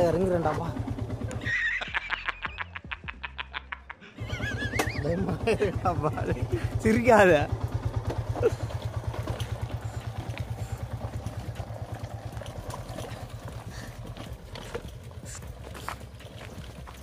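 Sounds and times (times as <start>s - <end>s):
motorcycle engine puttering: 0.0s - 2.5s, 4.2s - 17.0s.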